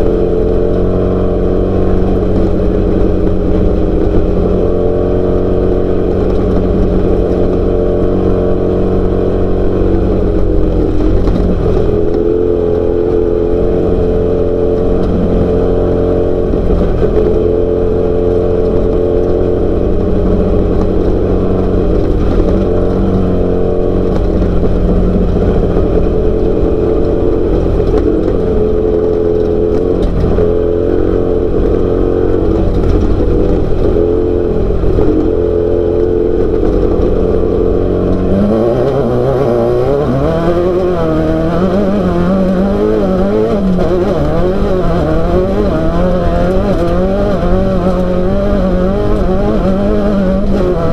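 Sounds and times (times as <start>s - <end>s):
race car engine revving high: 0.0s - 50.9s.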